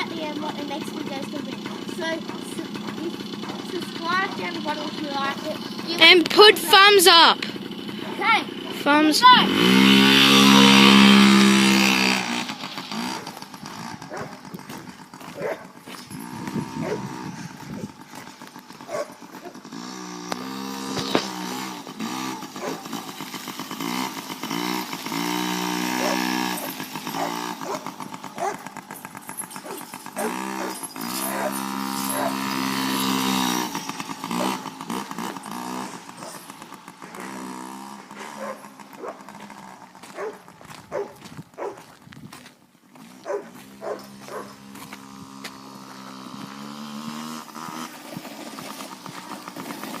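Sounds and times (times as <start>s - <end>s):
small motorbike engine revving: 0.0s - 50.0s.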